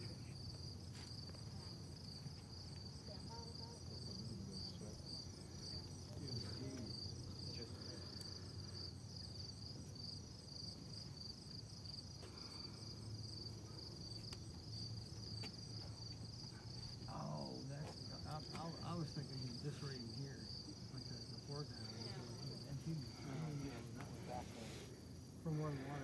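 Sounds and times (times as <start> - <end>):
insect chorus trilling: 0.0 - 26.0.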